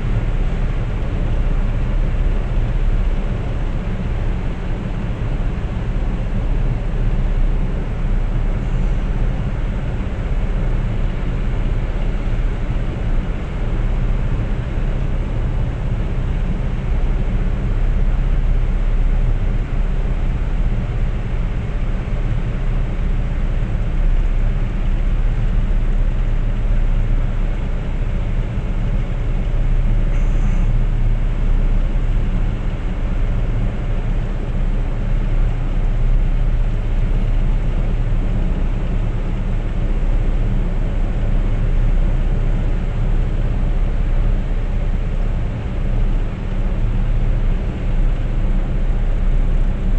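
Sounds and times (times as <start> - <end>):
engine and tyre rumble: 0.0 - 49.9.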